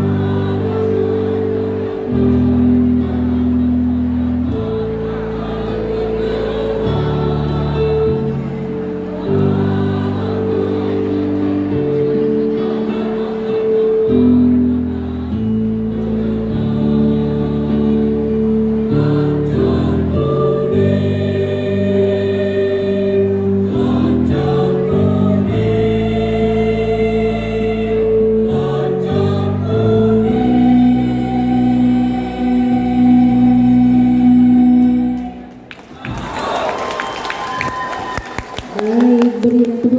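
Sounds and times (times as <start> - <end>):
choir singing in harmony: 0.0 - 37.3.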